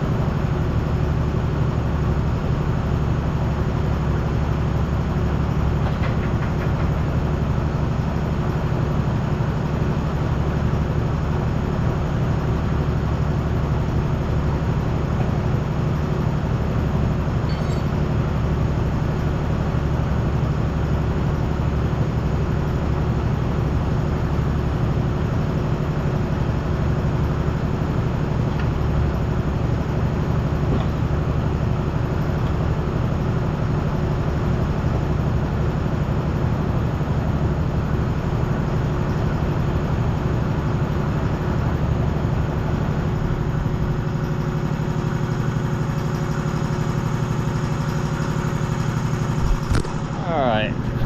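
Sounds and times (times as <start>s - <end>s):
engine low pulsing rumble: 0.0s - 51.0s.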